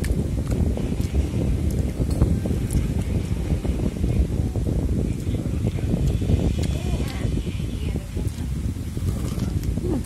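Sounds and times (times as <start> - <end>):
low rumble of wind or handling: 0.0 - 10.0.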